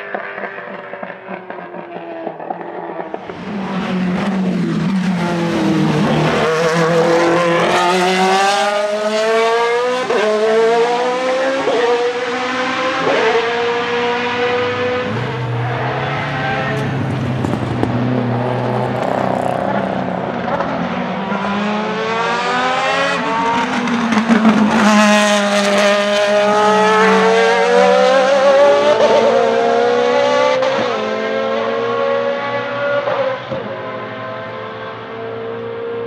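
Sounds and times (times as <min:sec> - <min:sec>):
race car engine passing: 0:00.0 - 0:36.0.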